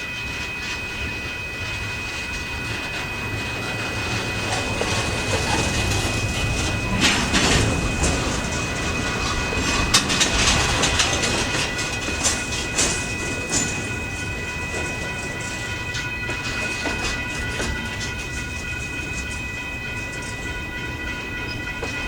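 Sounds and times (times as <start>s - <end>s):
freight train wheels clicking: 0.0s - 22.0s.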